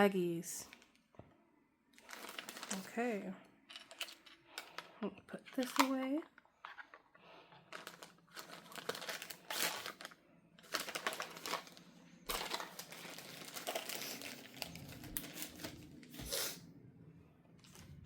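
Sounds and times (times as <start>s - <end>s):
plastic packaging crinkling: 2.0s - 16.6s, 17.6s - 18.0s.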